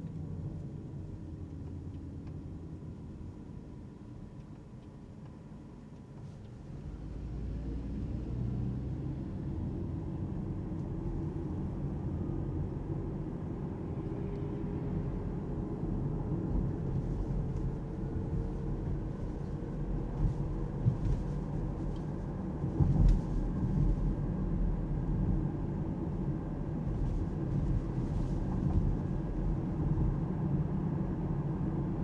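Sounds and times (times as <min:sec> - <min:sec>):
road and tyre rumble: 0:00.0 - 0:32.0.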